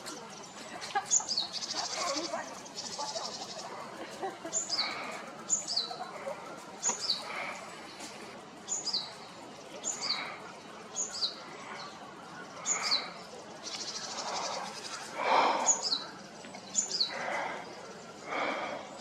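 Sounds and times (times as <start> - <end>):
soft low bird calls: 0.2 - 19.0.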